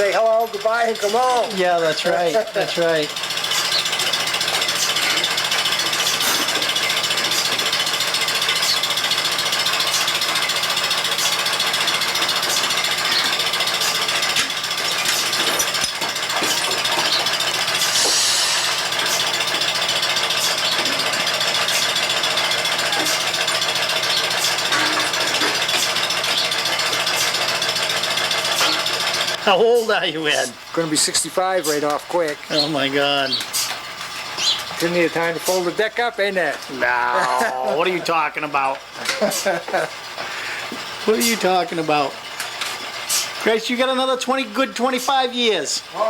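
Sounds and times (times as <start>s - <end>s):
pulsators clicking: 0.0s - 46.0s
vacuum pump humming: 0.0s - 46.0s.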